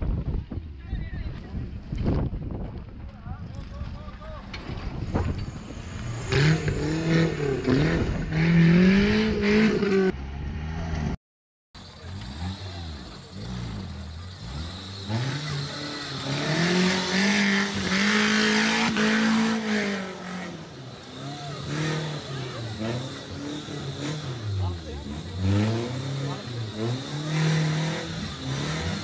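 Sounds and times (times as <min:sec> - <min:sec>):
engines revving under load: 0:04.4 - 0:11.2, 0:11.8 - 0:29.0.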